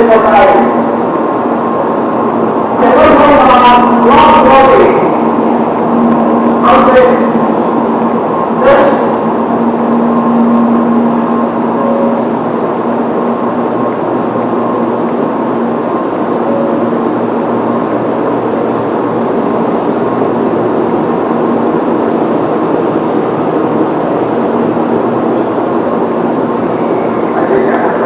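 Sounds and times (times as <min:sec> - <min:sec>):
faint constant hum: 0:00.0 - 0:28.0.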